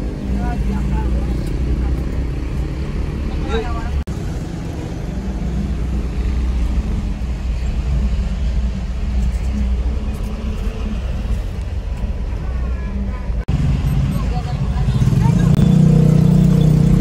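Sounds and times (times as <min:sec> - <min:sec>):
diesel engine rumble: 0:00.0 - 0:17.0
road noise: 0:00.0 - 0:17.0.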